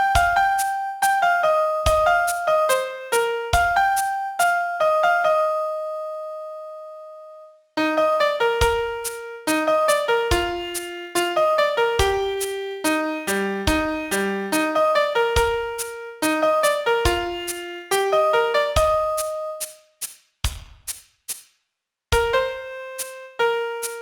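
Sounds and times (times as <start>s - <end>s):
piano melody: 0.0s - 19.8s, 22.2s - 24.0s.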